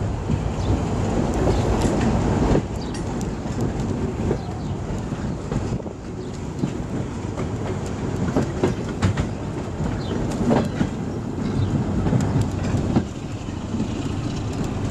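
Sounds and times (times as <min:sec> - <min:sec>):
train wheels rumbling: 0:00.0 - 0:14.9
wheels clattering over rail joints: 0:00.2 - 0:14.9.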